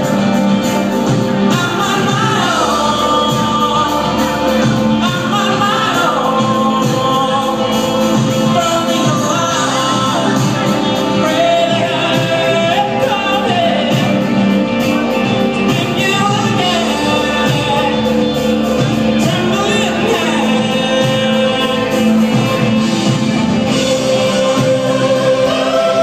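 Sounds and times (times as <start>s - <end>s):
live rock band playing: 0.0s - 26.0s
man singing lead vocals: 0.0s - 26.0s.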